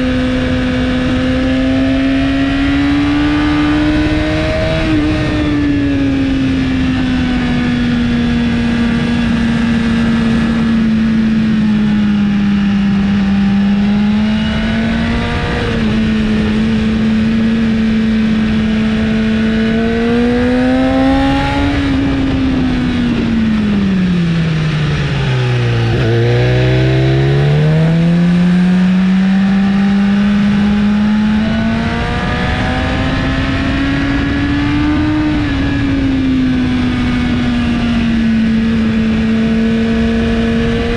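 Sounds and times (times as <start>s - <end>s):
motorcycle engine at high revs: 0.0s - 40.9s
wind noise: 0.0s - 40.9s.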